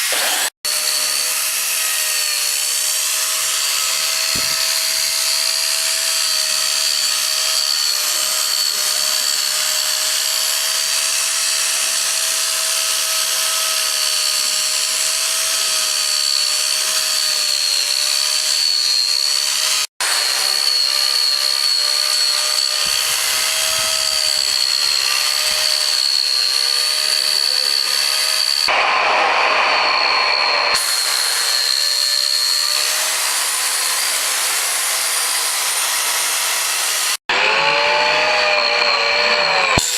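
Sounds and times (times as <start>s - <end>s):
power tool grinding wood: 0.0s - 39.9s.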